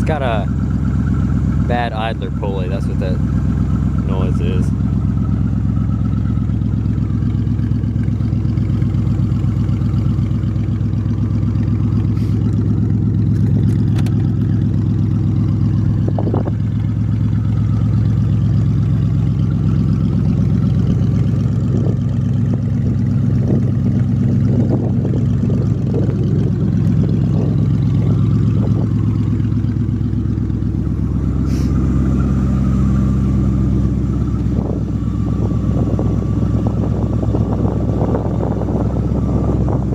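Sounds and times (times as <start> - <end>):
idler pulley noise: 0.0 - 39.9
loud engine exhaust note: 0.0 - 39.9.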